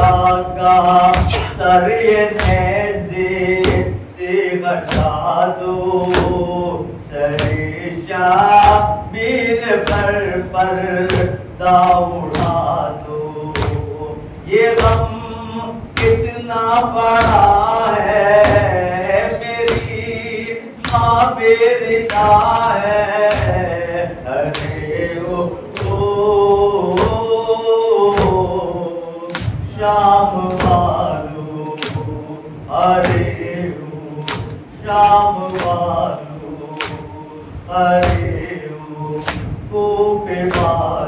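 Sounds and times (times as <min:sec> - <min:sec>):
man chanting a lament: 0:00.0 - 0:41.0.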